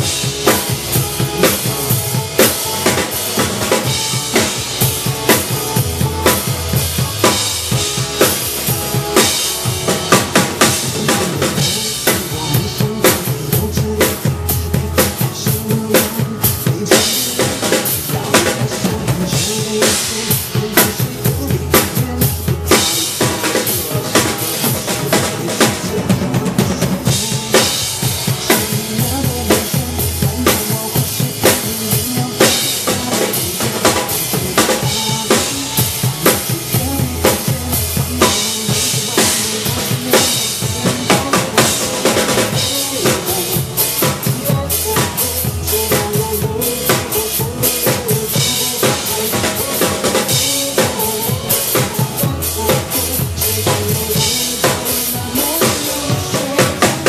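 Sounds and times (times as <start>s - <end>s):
backing music: 0.0s - 57.0s.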